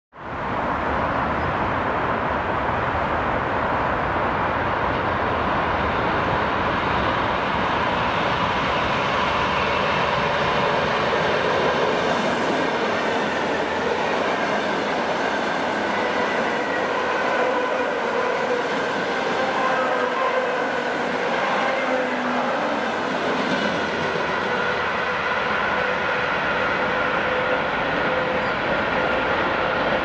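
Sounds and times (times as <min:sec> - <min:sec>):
train running past on track: 0:00.2 - 0:30.0.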